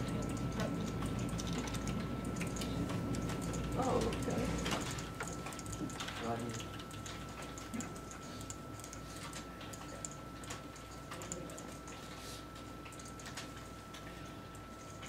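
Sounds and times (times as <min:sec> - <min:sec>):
keyboard typing: 0:00.0 - 0:15.0.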